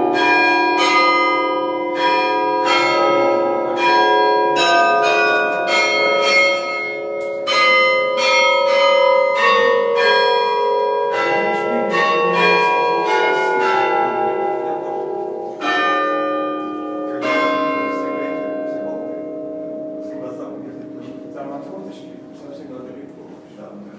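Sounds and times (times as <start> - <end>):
tower bells ringing melody: 0.0 - 23.9.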